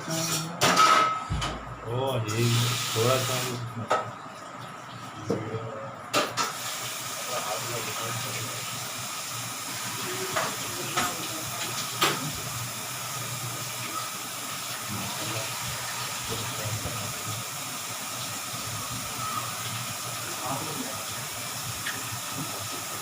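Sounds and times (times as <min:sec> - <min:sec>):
electric oven hum and hiss: 0:00.0 - 0:23.0.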